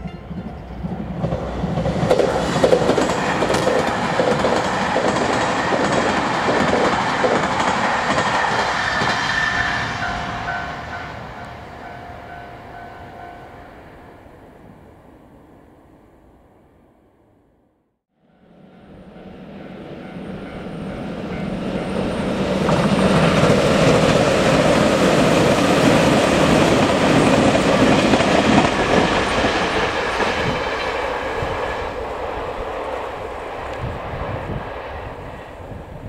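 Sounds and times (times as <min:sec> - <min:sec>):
train passing at speed: 0:00.0 - 0:17.5, 0:18.1 - 0:36.0.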